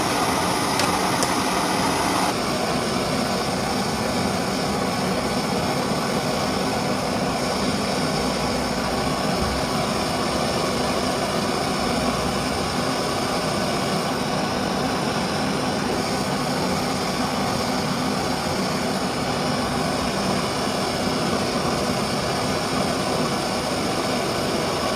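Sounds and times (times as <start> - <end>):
pressure stove burning: 0.0 - 24.9.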